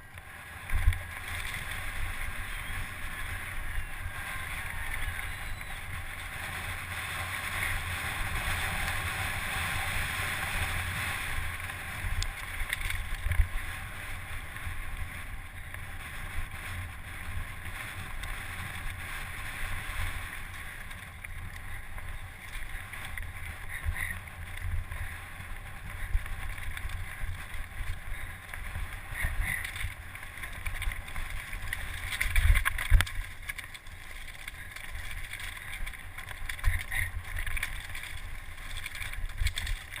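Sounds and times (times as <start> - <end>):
wind rushing on microphone: 0.0 - 40.0.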